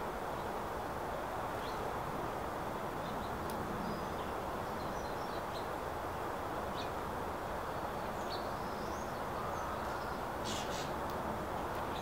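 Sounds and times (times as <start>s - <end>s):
low outdoor background noise: 0.0s - 12.0s
songbirds chirping: 0.0s - 12.0s.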